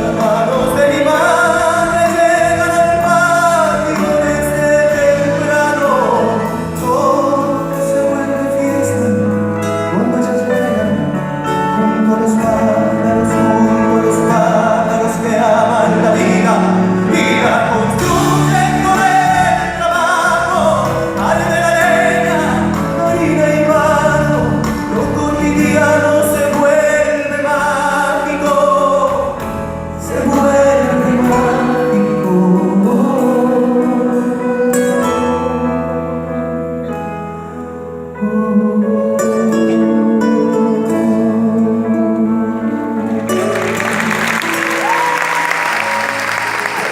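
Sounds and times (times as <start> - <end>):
person singing a melody: 0.0 - 36.3, 38.0 - 46.9
live folk band: 0.0 - 46.9.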